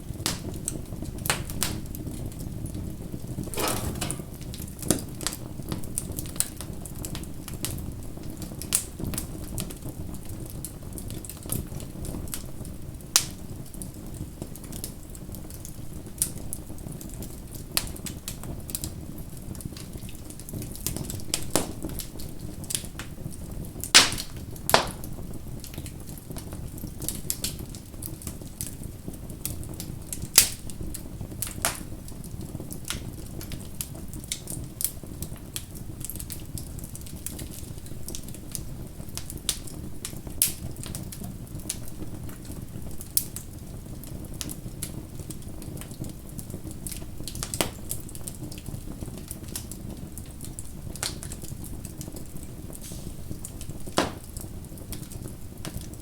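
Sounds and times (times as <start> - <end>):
bonfire crackling and popping: 3.4 - 56.0.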